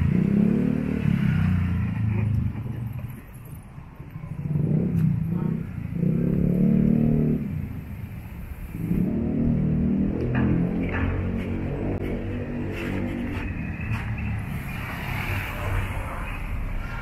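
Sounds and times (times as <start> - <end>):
vehicle engines passing: 0.0 - 17.0.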